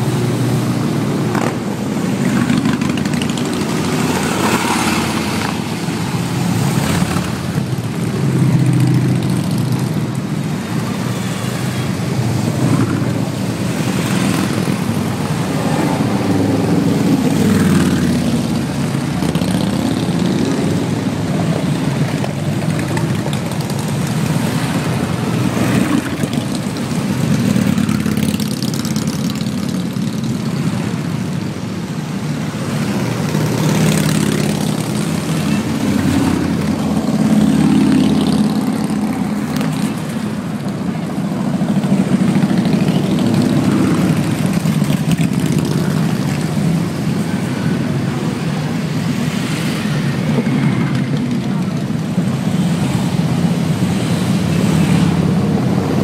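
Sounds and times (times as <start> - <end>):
motorcycles riding past: 0.0 - 56.0.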